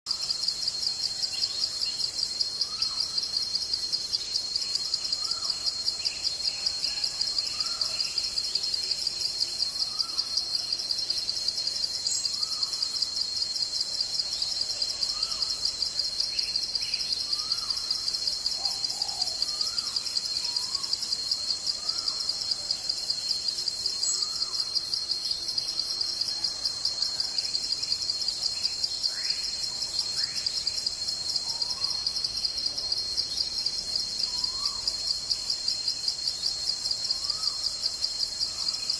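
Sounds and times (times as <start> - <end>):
insect trill: 0.1 - 38.9.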